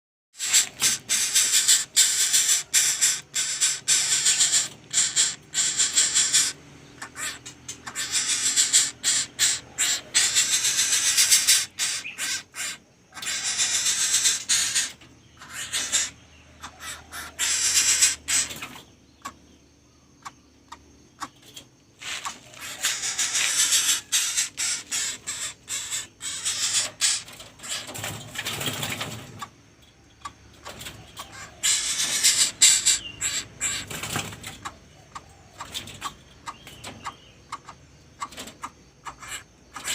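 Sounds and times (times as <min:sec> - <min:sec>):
chicks making harsh hissing calls: 0:00.4 - 0:19.4, 0:21.2 - 0:29.5, 0:30.6 - 0:34.8, 0:35.5 - 0:39.9.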